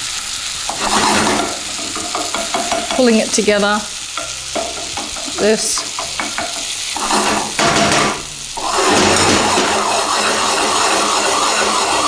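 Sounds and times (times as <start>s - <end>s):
omelette sizzling in frying pan: 0.0s - 12.0s
spoon scraping in pan: 0.7s - 12.0s.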